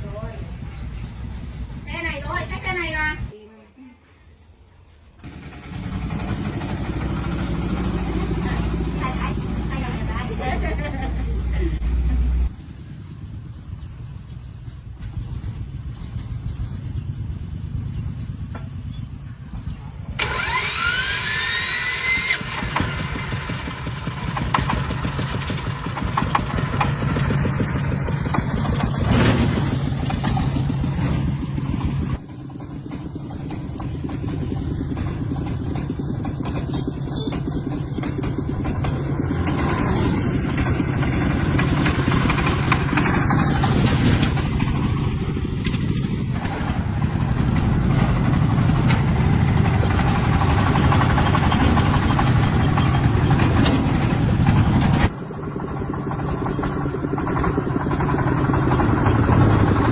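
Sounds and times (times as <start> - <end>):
tractor engine running: 4.9 - 59.9.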